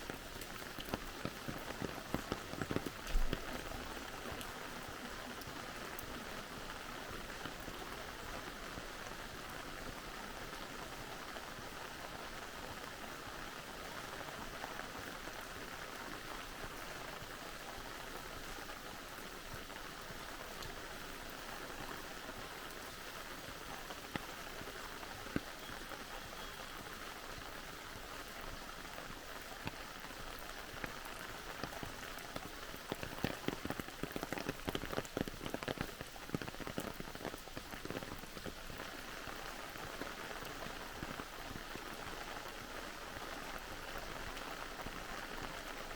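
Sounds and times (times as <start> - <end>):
close raindrops striking: 0.0 - 45.9
steady rain falling: 0.0 - 45.9.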